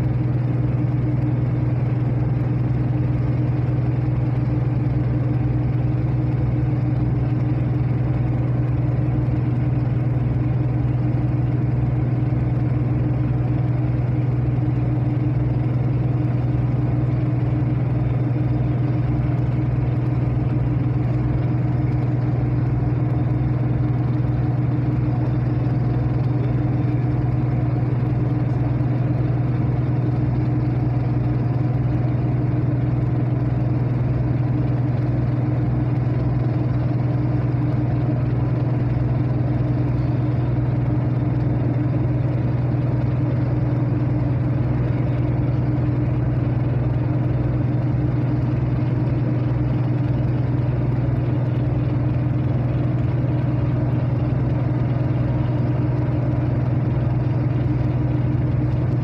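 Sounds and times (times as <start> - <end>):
ship diesel engine humming: 0.0 - 59.0.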